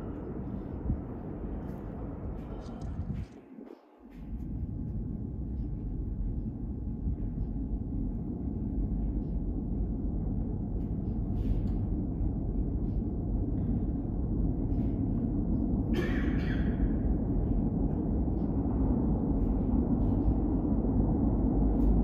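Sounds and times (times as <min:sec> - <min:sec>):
subway train rumbling: 0:00.0 - 0:03.4, 0:04.1 - 0:22.0.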